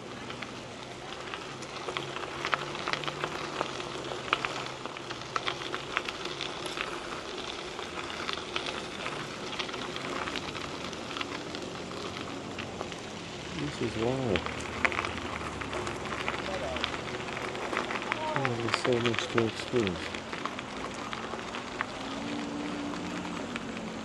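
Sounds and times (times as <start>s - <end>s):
bike tyres crunching on gravel: 0.0s - 24.0s
small stones clicking and popping: 1.1s - 24.0s.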